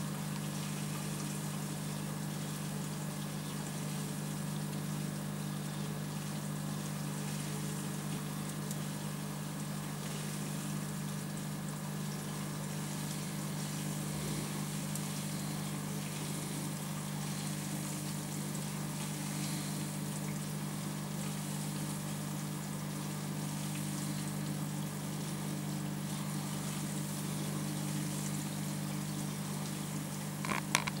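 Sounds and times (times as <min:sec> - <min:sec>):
aquarium pump humming: 0:00.0 - 0:31.0
water trickling and bubbling: 0:00.3 - 0:31.0.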